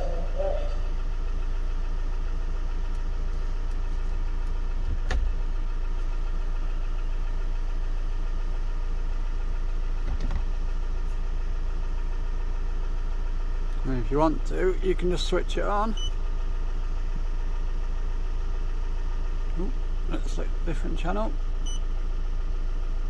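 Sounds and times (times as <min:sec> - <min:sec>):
van engine idling: 0:00.0 - 0:23.0.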